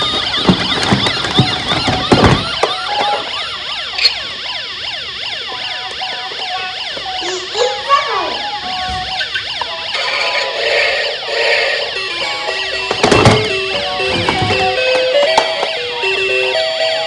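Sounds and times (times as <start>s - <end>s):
toy sirens wailing: 0.0s - 17.0s.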